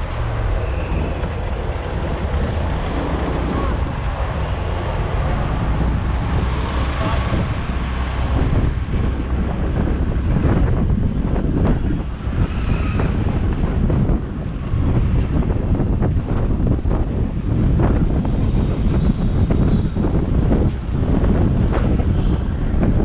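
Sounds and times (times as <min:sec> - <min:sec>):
vehicle road rumble: 0:00.0 - 0:23.0
wind buffeting microphone: 0:00.0 - 0:23.0.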